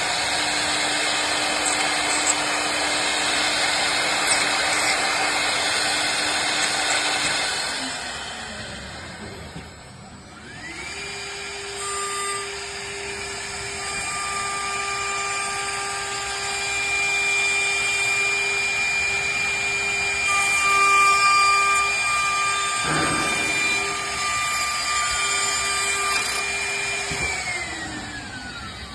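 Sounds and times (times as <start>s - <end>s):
machine motor whining: 0.0s - 28.9s.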